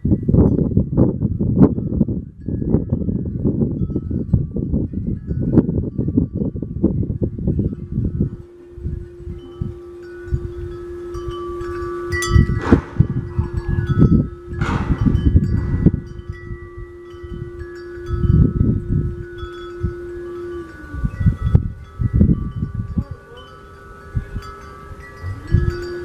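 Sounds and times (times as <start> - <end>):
low gusty rumbling: 0.0 - 26.0
steady low tone: 0.0 - 26.0
wind chimes ringing: 1.6 - 26.0.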